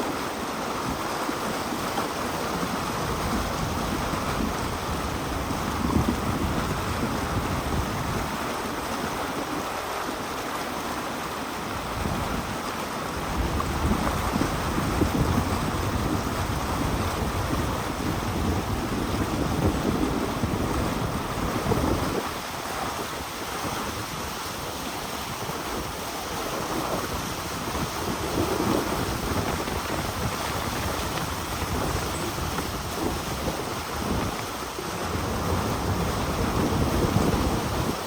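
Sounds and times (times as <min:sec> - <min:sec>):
wind buffeting microphone: 0:00.8 - 0:09.7, 0:11.7 - 0:38.0.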